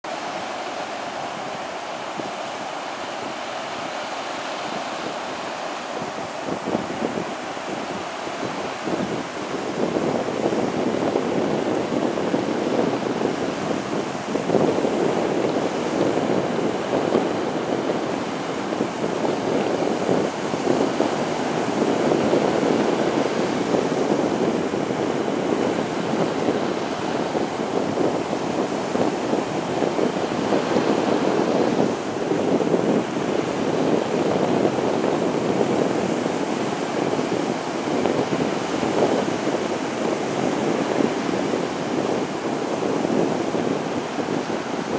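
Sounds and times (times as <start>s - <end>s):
waves breaking on sandy beach: 0.0s - 44.9s.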